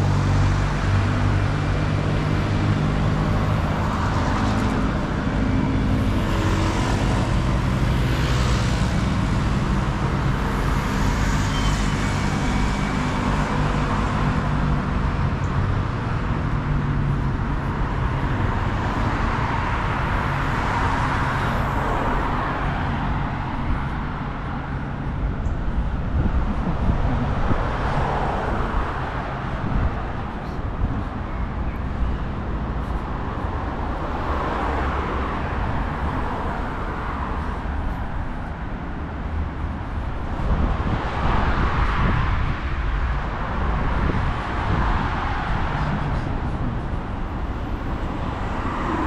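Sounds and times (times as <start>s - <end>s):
cars passing by: 0.0s - 49.0s.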